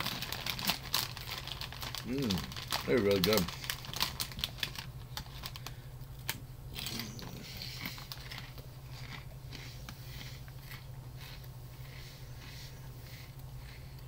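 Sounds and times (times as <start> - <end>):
crunchy snack being chewed: 0.0 - 14.0
steady low hum: 0.0 - 14.0.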